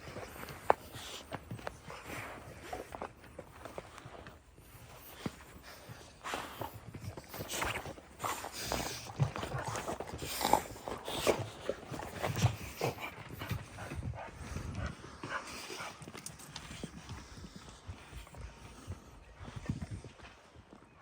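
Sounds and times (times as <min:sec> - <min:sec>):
dogs moving clicks and scuffles: 0:00.0 - 0:20.9.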